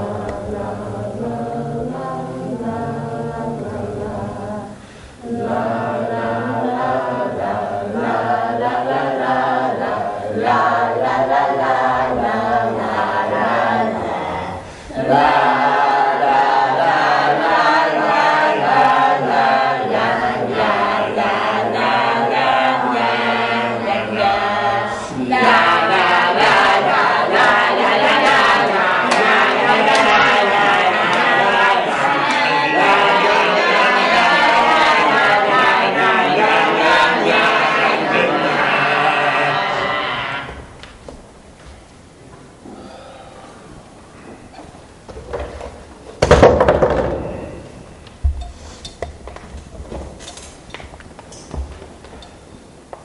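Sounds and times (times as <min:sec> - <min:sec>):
group singing without instruments: 0:00.0 - 0:41.0, 0:42.6 - 0:49.3.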